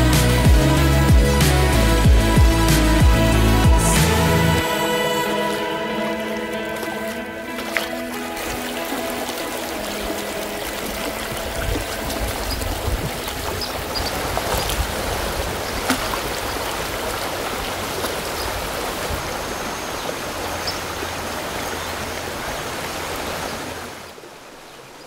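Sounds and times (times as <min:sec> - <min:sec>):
river flowing over pebbles: 0:04.6 - 0:25.0.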